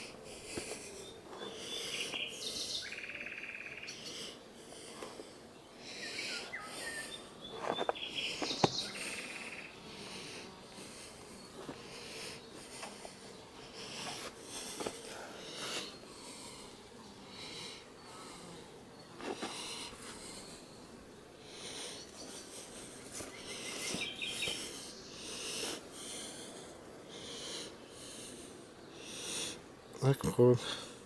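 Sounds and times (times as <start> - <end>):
person breathing heavily: 0.0 - 3.2, 3.8 - 7.4, 8.1 - 29.7, 30.6 - 31.0
faint steady hum: 0.0 - 31.0.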